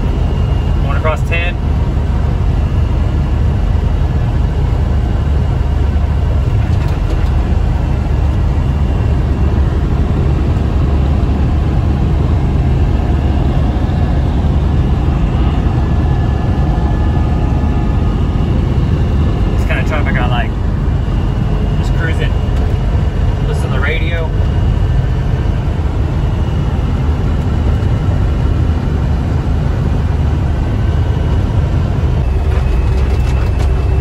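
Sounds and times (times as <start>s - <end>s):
road and wind noise: 0.0s - 34.0s
truck diesel engine droning: 0.0s - 34.0s.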